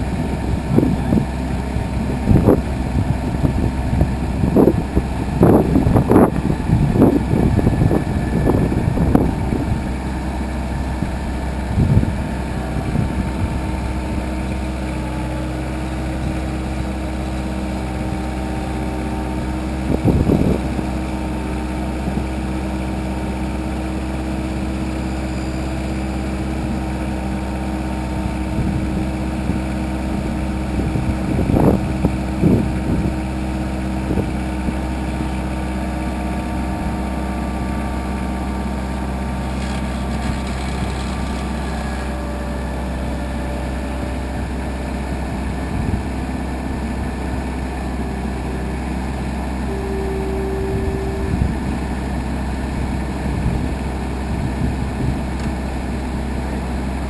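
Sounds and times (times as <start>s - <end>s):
loader bucket working dirt: 0.0s - 57.0s
tractor engine running: 0.0s - 57.0s.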